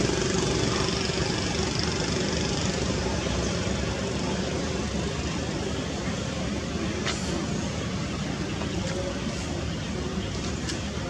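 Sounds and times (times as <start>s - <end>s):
motor vehicle engine running: 0.0s - 11.0s.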